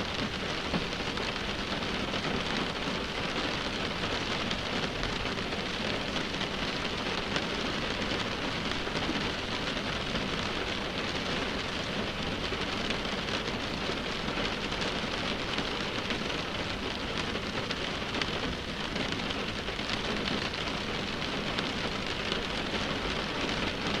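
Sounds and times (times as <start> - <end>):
rain on car windshield: 0.0 - 24.0.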